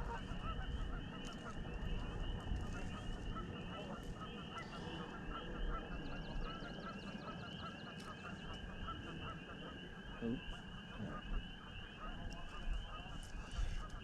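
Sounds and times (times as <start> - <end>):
chorus of animal calls: 0.0 - 14.0
wind rumbling on microphone: 0.0 - 14.0.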